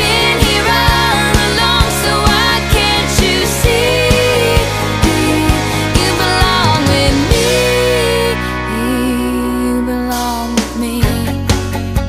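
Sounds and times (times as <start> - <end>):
pop song: 0.0 - 12.0.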